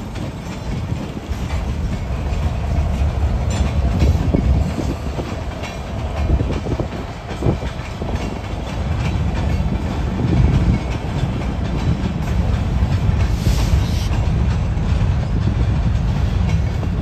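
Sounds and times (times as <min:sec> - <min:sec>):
diesel locomotive engine rumble: 0:00.0 - 0:17.0
wheels clicking over rail joints: 0:00.0 - 0:17.0.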